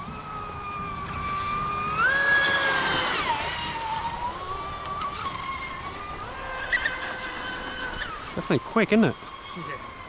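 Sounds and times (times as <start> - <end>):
rc boat motor whining: 0.0 - 10.0.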